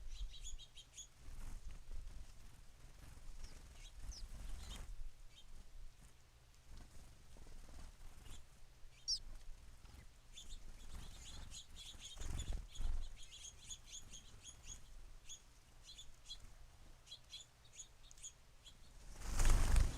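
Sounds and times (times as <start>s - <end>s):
small songbirds chirping: 0.0s - 6.0s, 6.7s - 19.9s.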